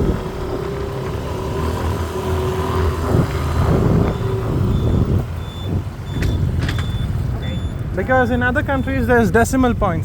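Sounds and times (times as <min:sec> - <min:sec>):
vehicle engines rumbling: 0:00.0 - 0:10.0.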